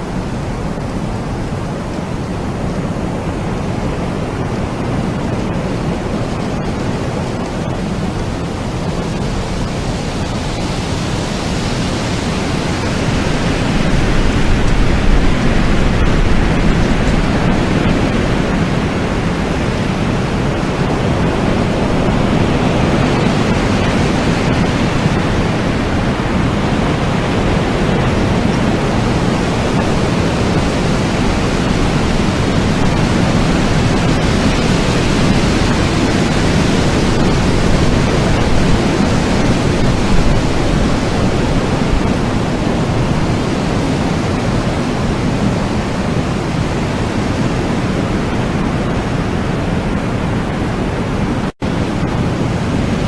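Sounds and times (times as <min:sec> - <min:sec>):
loud low rushing noise: 0:00.0 - 0:43.9.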